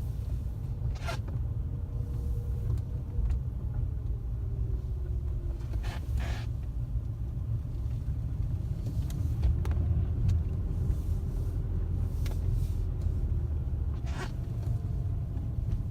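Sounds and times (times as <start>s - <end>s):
car engine and road rumble: 0.0s - 15.9s.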